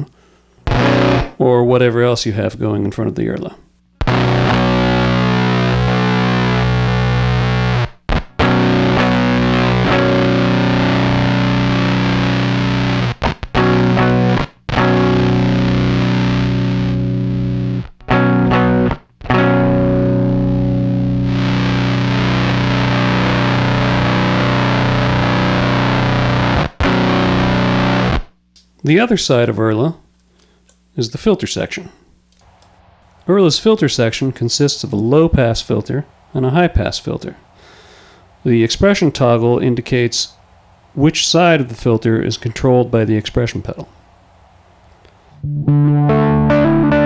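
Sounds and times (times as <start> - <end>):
fuzzed electric guitar chords: 0.0 - 1.4, 3.9 - 29.1, 31.7 - 47.0.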